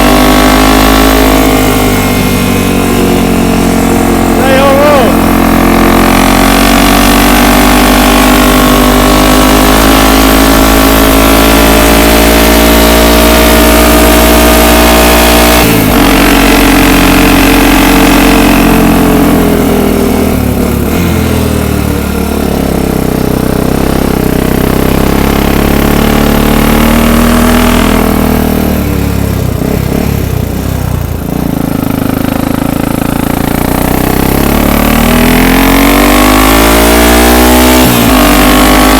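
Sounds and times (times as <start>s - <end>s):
atv engine running hard: 0.0s - 38.9s.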